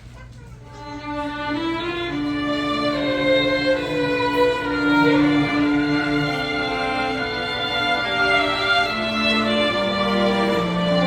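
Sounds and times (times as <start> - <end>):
low instrumental accompaniment: 0.7 - 11.0
violin slow melody: 0.7 - 11.0.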